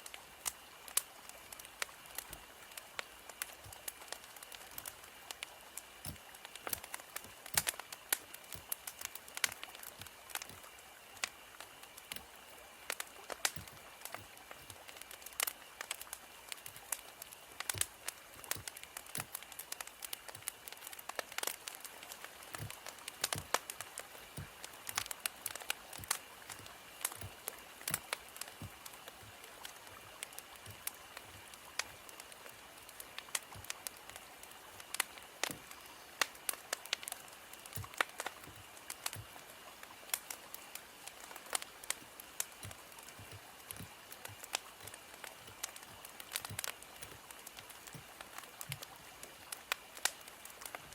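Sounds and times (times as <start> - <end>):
firewood crackling and popping: 0.0 - 50.9
soft hiss: 0.0 - 50.9.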